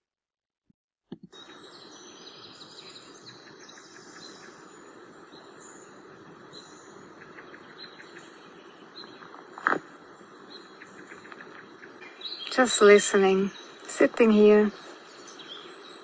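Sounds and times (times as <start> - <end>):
bird chirps: 1.3 - 16.0
insect trill: 1.3 - 16.0
soft background hiss: 1.3 - 16.0.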